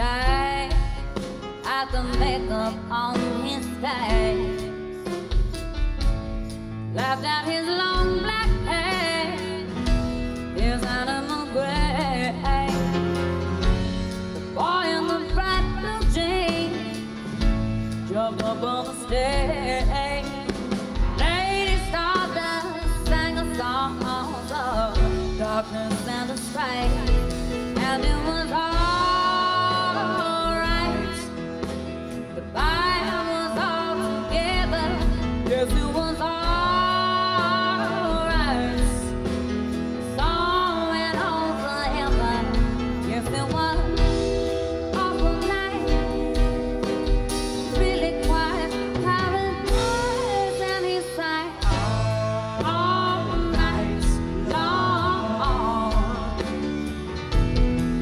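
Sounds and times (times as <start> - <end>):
woman singing: 0.0 - 5.4, 6.9 - 57.3
rock band playing: 0.0 - 58.0.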